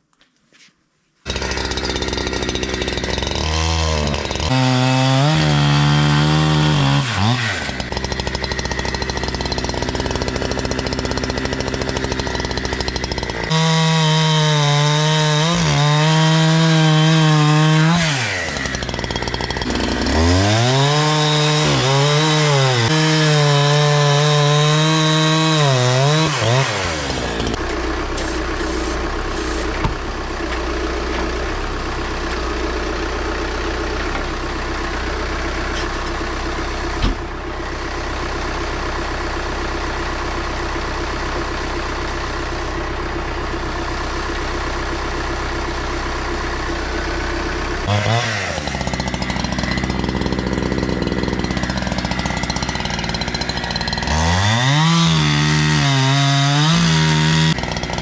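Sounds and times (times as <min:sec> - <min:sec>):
chainsaw revving and cutting wood: 0:01.2 - 0:58.0.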